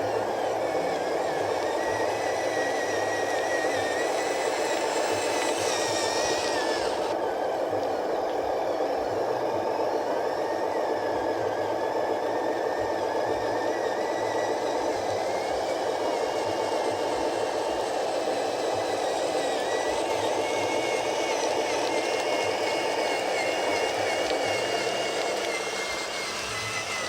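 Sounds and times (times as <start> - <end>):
electric motor whirring: 0.0 - 27.0.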